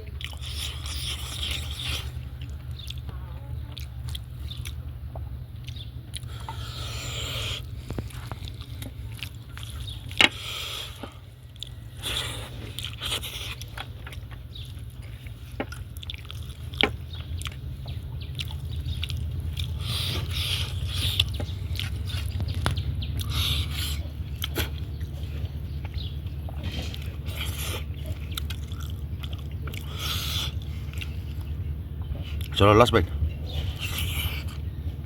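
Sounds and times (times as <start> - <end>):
person chewing food: 0.0 - 32.6, 33.5 - 35.0
steady low hum: 0.0 - 35.0.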